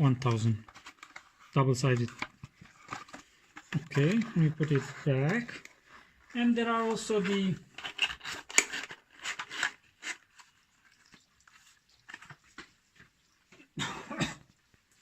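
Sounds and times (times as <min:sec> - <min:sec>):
cardboard packaging rustling: 0:00.1 - 0:13.3.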